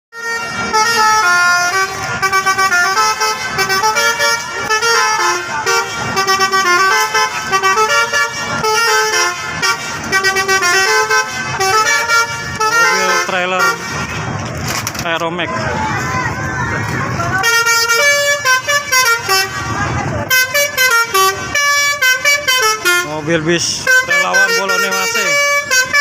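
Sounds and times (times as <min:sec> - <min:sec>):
multi-tone air horns melody: 0:00.2 - 0:14.4, 0:17.3 - 0:26.0.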